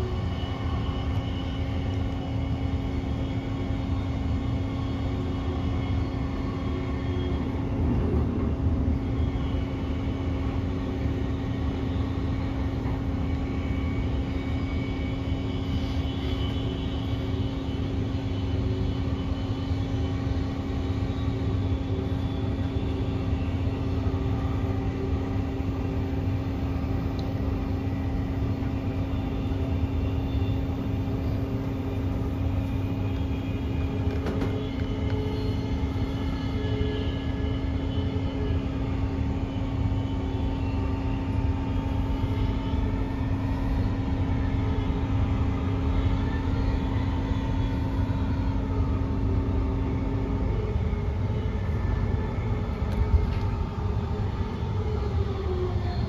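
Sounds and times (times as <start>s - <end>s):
low rumble of train wheels: 0.0s - 56.0s.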